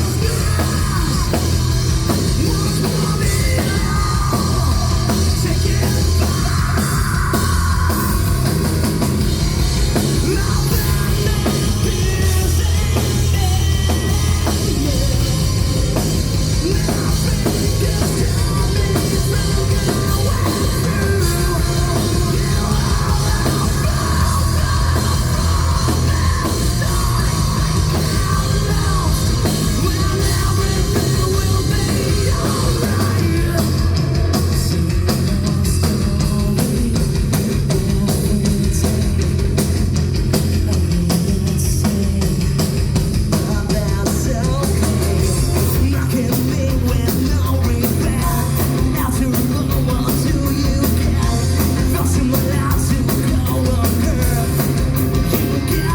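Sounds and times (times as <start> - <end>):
drum kit: 0.0 - 55.9
metal band playing live: 0.0 - 55.9.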